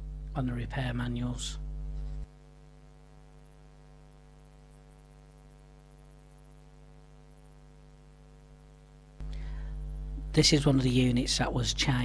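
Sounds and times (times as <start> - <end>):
faint electrical mains hum: 0.0 - 12.0.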